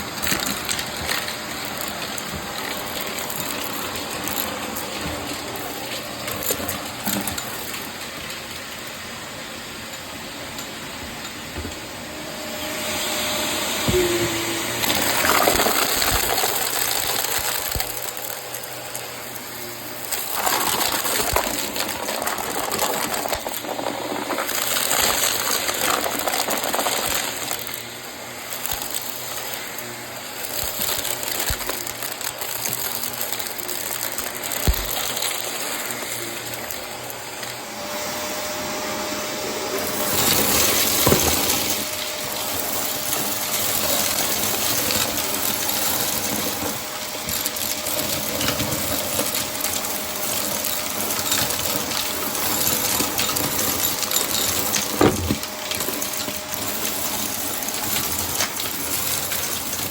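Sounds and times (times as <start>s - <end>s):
debris crackling and rattling: 0.0s - 9.2s, 14.8s - 37.6s, 39.8s - 59.9s
vacuum cleaner suction: 0.0s - 59.9s.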